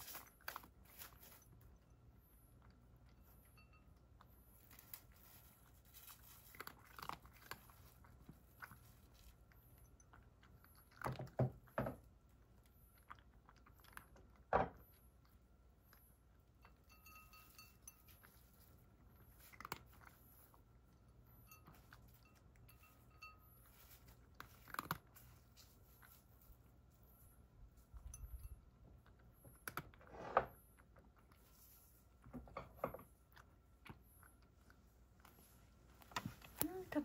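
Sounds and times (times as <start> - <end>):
cat chewing and crunching: 0.0 - 37.0.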